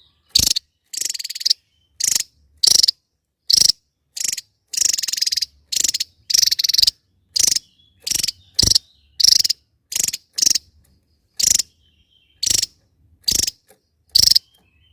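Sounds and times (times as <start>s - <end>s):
bird rattling call: 0.3s - 10.6s, 11.4s - 11.8s, 12.4s - 14.5s.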